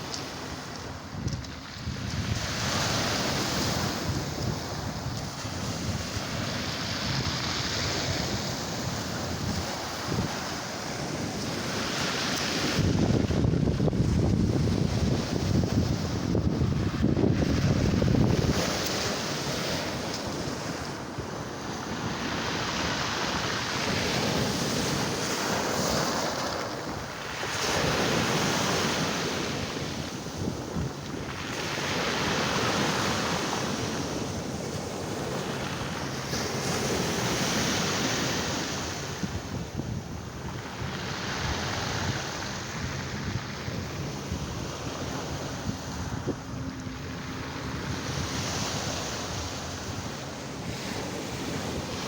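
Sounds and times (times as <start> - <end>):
waves breaking on shore: 0.0 - 52.0
wind buffeting microphone: 0.0 - 52.0.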